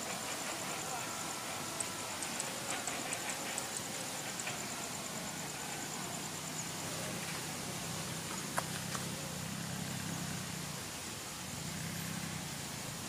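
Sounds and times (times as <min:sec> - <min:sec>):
distant locomotive engine drone: 0:00.0 - 0:13.0
outdoor background noise: 0:00.0 - 0:13.0.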